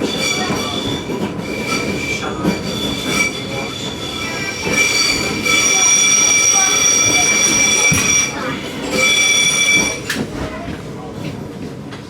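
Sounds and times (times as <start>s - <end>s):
train wheels squealing: 0.0s - 10.5s
train running gear rumble: 0.0s - 12.0s.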